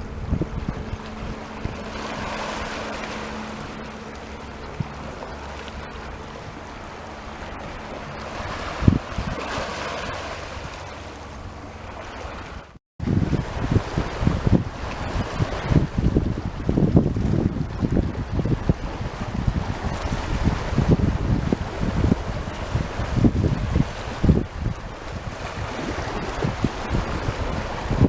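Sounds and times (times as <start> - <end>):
sea waves washing onto shore: 0.0 - 28.0
wind gusting on microphone: 0.0 - 28.0.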